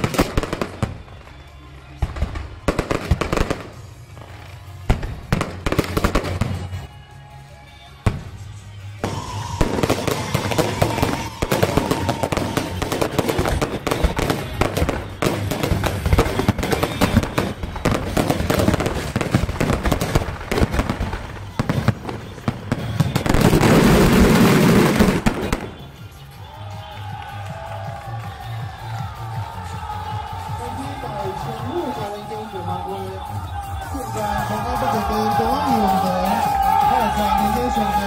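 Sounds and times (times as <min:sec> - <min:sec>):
fireworks bangs and crackling: 0:00.0 - 0:07.2, 0:07.9 - 0:38.0.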